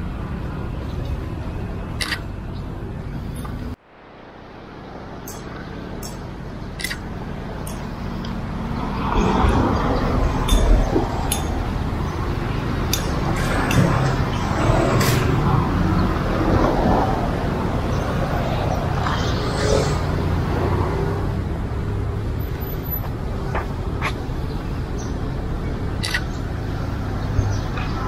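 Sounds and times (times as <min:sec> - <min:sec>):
passing cars rumbling: 0:00.0 - 0:28.0.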